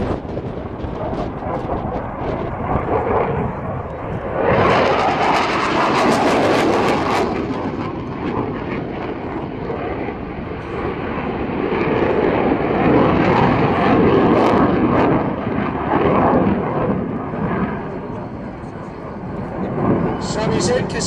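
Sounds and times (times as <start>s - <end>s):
jet engine crackle: 0.0s - 21.0s
jet engine roar: 0.0s - 21.0s.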